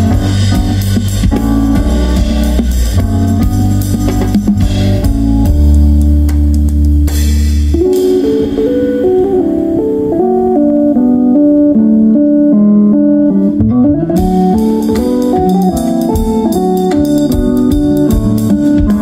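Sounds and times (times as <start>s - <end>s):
jazz trio playing: 0.0s - 19.0s
keyboard melody: 0.0s - 19.0s.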